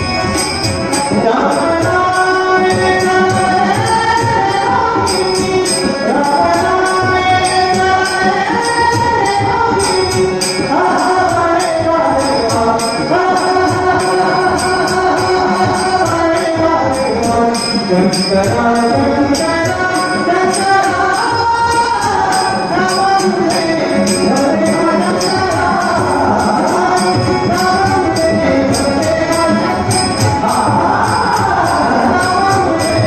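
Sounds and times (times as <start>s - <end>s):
harmonium: 0.0s - 33.0s
jingling percussion: 0.0s - 33.0s
person singing: 0.0s - 33.0s.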